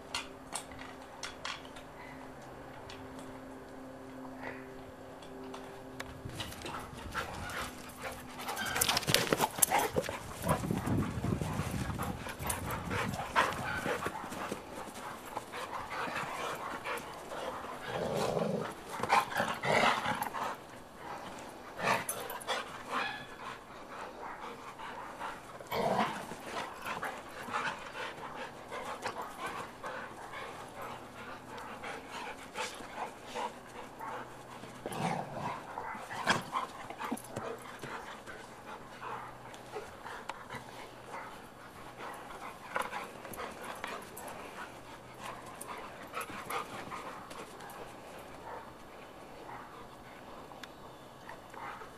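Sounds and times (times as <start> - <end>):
dogs play-fighting: 0.0 - 51.9
dog panting: 6.4 - 50.5.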